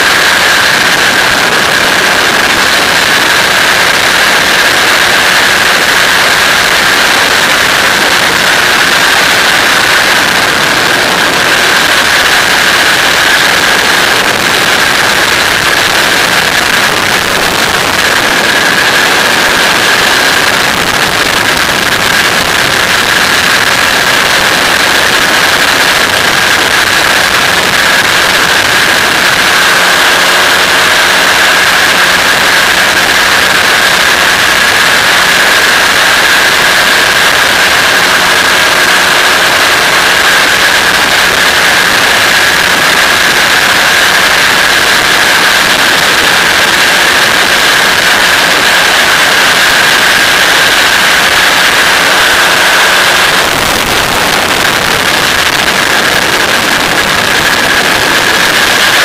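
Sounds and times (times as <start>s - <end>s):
aircraft engine drone: 0.0s - 59.0s
wind rush on microphone: 0.0s - 59.0s.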